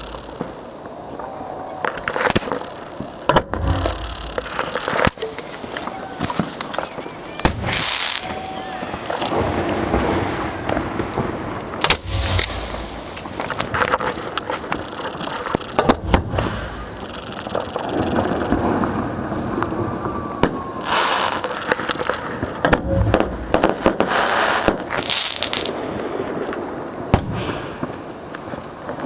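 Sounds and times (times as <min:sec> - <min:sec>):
firework shells banging: 0:00.0 - 0:00.6, 0:01.7 - 0:19.0, 0:20.4 - 0:25.8
fireworks crackling: 0:00.0 - 0:29.0
fireworks hissing: 0:00.0 - 0:29.0.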